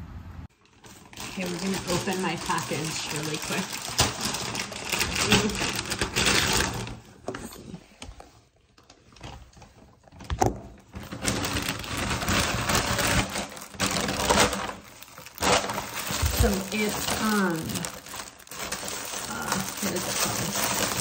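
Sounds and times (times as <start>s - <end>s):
plastic bag rustling and crinkling: 0.5s - 21.0s.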